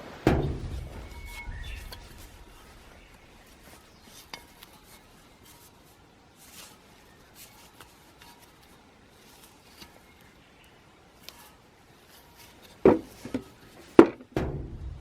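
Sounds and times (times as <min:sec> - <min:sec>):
small clicks and rustles: 0:00.6 - 0:14.8.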